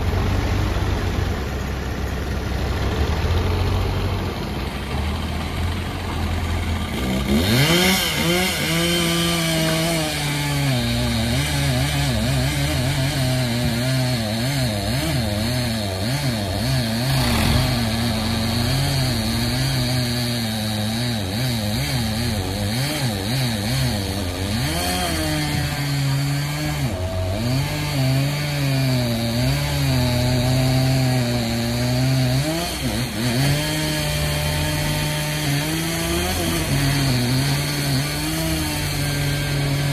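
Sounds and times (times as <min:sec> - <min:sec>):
chainsaw cutting log: 0:04.7 - 0:39.9.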